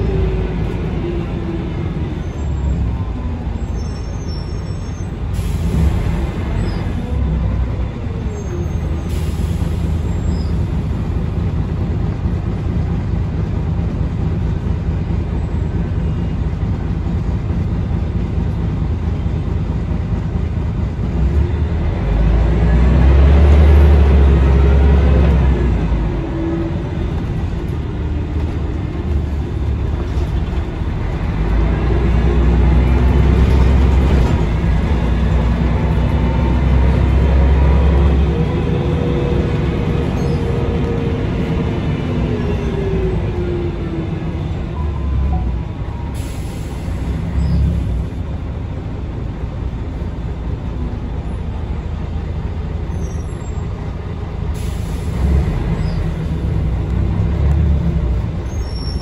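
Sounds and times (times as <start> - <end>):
bus diesel engine drone: 0.0 - 59.0
road noise: 0.0 - 59.0.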